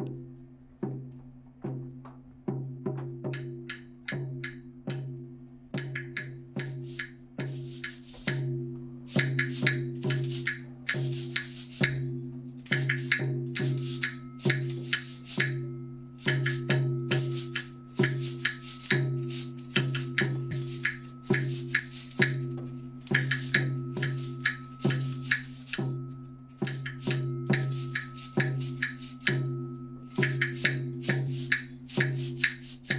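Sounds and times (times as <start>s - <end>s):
hand percussion ensemble playing: 3.2s - 32.9s.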